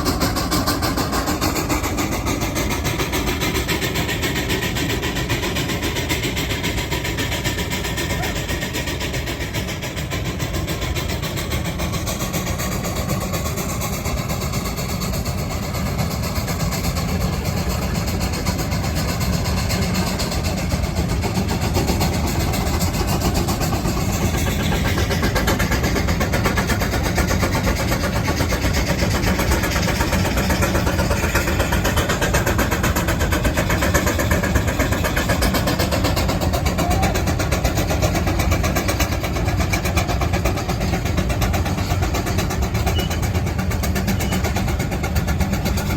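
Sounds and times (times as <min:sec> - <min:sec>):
steam traction engine running: 0:00.0 - 0:45.9.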